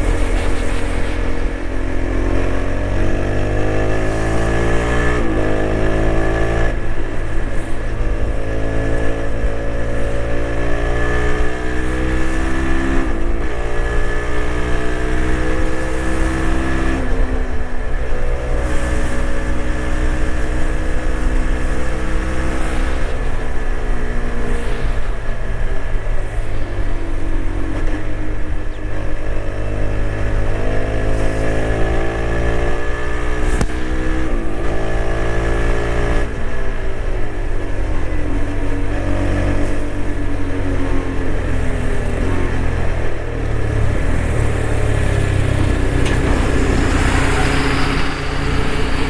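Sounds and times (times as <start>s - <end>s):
wind rumble: 0.0s - 30.2s, 36.1s - 49.0s
motorcycle engine at speed: 0.0s - 49.0s.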